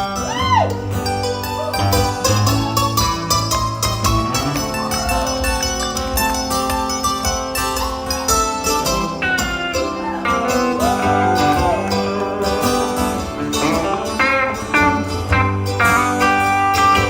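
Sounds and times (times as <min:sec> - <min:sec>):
band playing guitar-led instrumental: 0:00.0 - 0:17.0.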